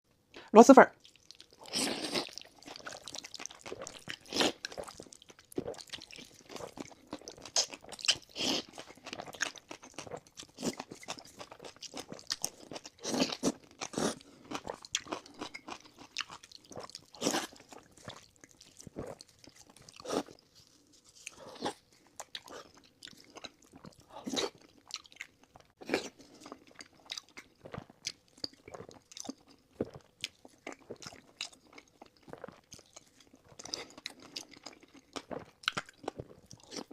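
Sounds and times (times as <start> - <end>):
wet chewing: 1.0 - 36.9.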